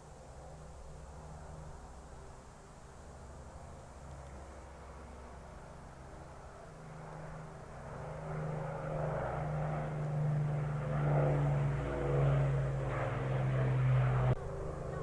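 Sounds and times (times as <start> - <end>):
aircraft piston engines droning: 0.0 - 15.0.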